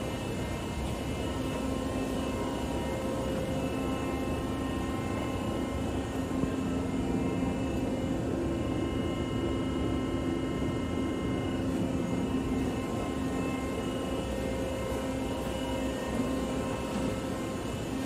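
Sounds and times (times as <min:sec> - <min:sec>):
machinery drone: 0:00.0 - 0:18.0.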